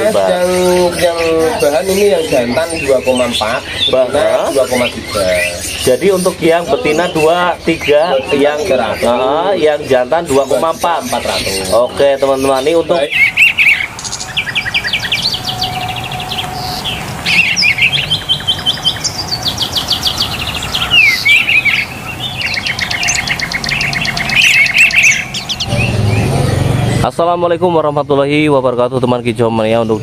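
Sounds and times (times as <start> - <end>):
songbirds chirping and trilling: 0.0 - 30.0.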